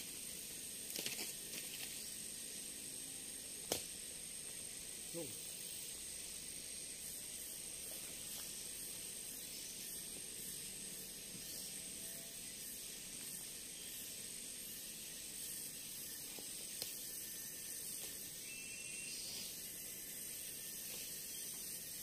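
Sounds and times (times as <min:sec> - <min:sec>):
forest insects hissing: 0:00.0 - 0:22.0
thin insect whine: 0:00.0 - 0:22.0.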